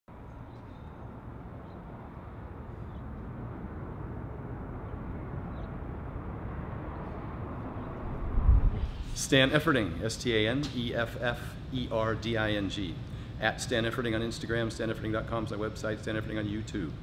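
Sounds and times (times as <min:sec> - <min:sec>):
steady low rumble: 0:00.2 - 0:17.0.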